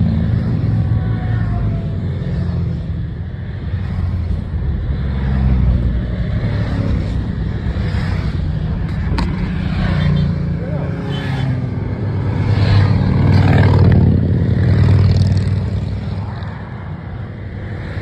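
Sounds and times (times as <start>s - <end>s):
motorcycles riding past: 0.0s - 18.0s.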